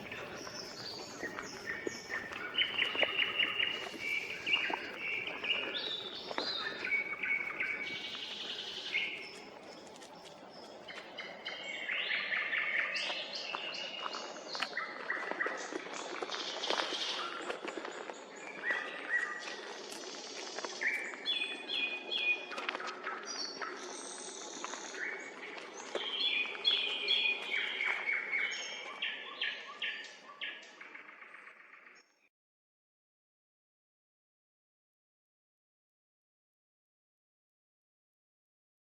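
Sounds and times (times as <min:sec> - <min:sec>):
small birds calling: 0:00.0 - 0:31.5
songbird singing: 0:00.0 - 0:32.2.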